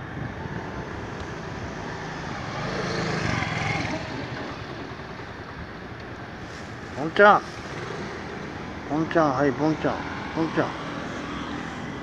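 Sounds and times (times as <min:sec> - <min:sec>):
passing vehicle engine: 0:00.1 - 0:12.0.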